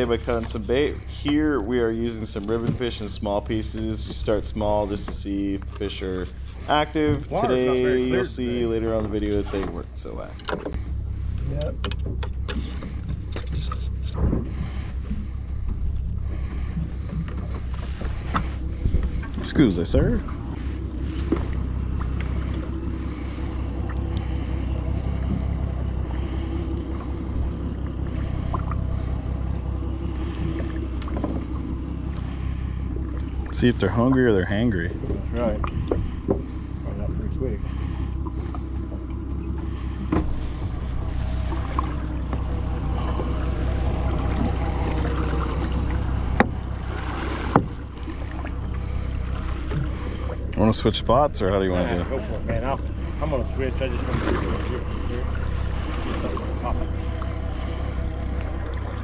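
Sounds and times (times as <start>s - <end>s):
boat engine idling: 0.0s - 59.0s
water noise: 0.0s - 59.0s
wind: 0.0s - 59.0s.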